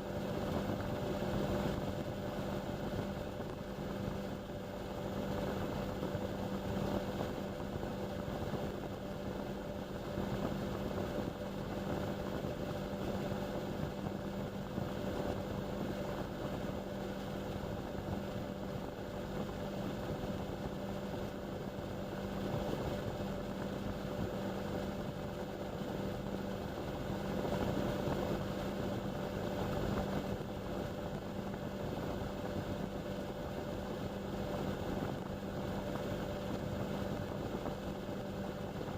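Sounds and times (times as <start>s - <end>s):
washing machine whirring: 0.0s - 38.9s.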